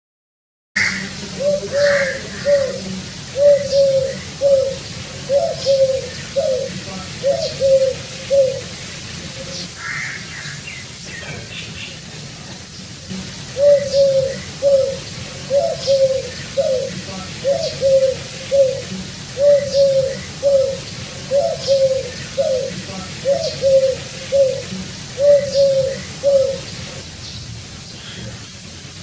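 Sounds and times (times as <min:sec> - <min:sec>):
dove cooing: 0:00.8 - 0:10.2, 0:13.2 - 0:27.0.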